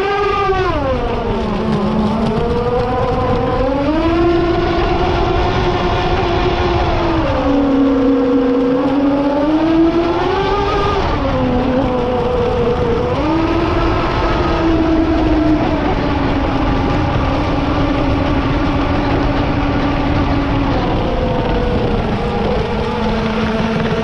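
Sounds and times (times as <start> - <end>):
model boat motor whining: 0.0 - 24.0
wind on camera: 0.0 - 24.0.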